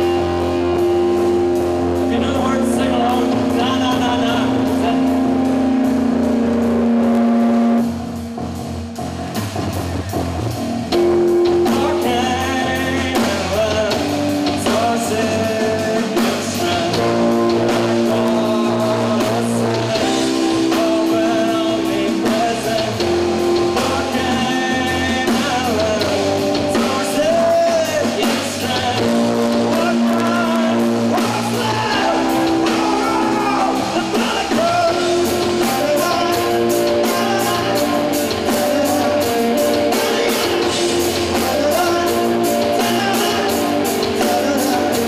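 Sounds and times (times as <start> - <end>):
live rock band playing: 0.0 - 45.0
man singing: 1.7 - 6.4, 11.4 - 45.0.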